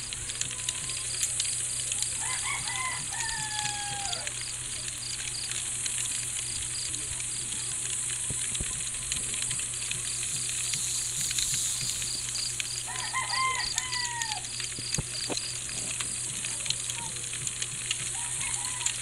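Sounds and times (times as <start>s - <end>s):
faint clicks: 0.0s - 19.0s
insects buzzing: 0.0s - 19.0s.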